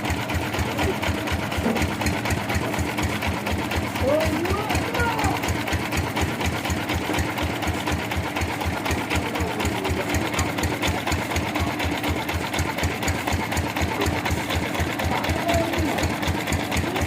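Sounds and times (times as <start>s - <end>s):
sawmill machinery thumping: 0.0s - 17.0s.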